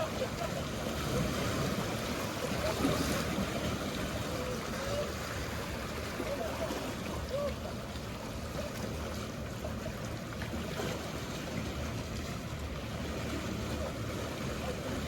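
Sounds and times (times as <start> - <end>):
boat engines humming: 0.0 - 15.0
sea water washing: 0.0 - 15.0.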